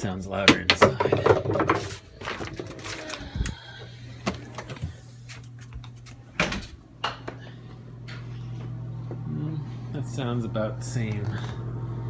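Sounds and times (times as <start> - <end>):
exhaust fan hum: 0.0 - 12.0.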